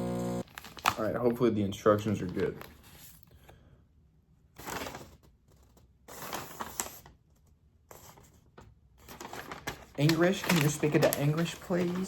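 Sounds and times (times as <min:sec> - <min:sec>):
paper rustling: 0:00.5 - 0:03.6, 0:04.6 - 0:12.0.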